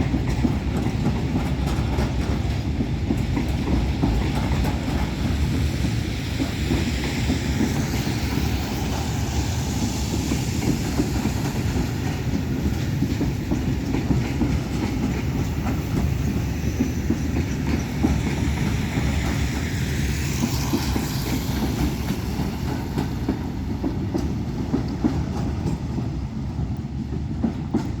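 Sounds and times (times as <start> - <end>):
diesel train passing: 0.0 - 28.0
wheels clattering over rail joints: 0.0 - 28.0.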